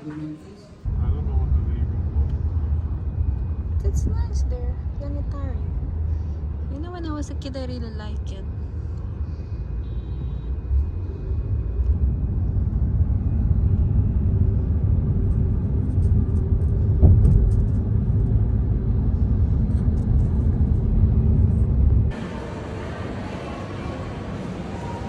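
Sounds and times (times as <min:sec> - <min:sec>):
tyre and engine rumble: 0:00.9 - 0:25.0.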